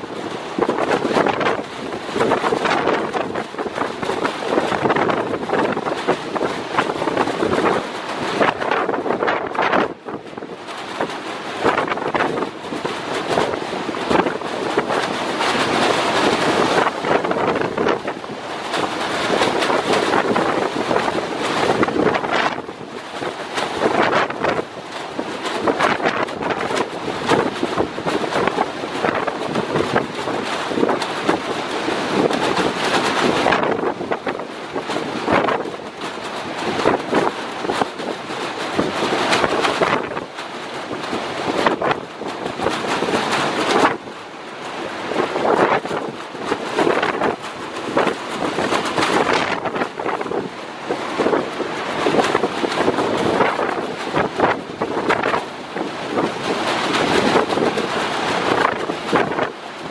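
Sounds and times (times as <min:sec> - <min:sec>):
strong wind roaring: 0:00.0 - 0:59.9.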